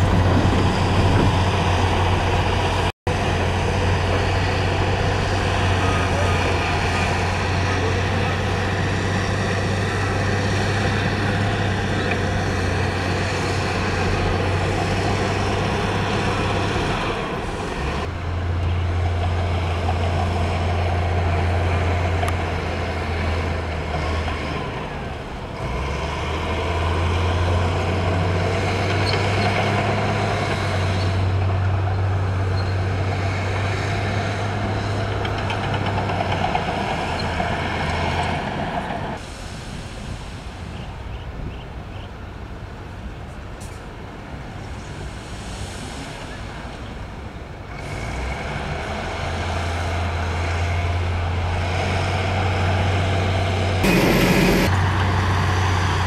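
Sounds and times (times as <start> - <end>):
diesel engine running: 0.0 - 39.3, 47.6 - 56.0.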